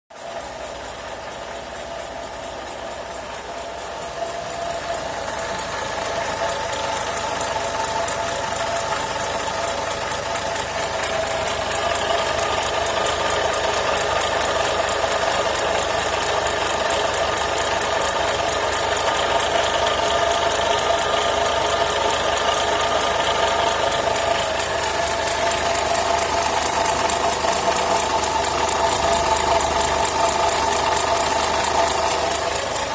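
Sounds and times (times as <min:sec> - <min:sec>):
fast rattling tick: 0:00.1 - 0:32.9
car engine running: 0:00.2 - 0:32.9.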